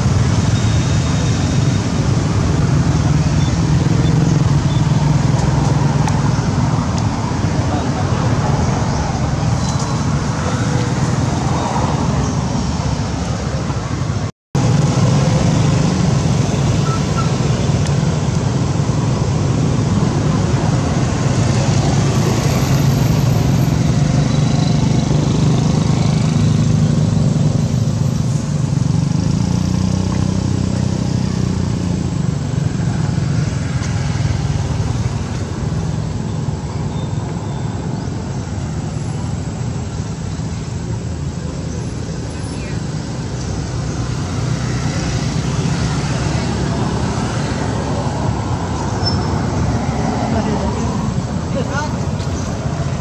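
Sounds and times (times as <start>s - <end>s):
motor vehicle rumble: 0.0s - 53.0s.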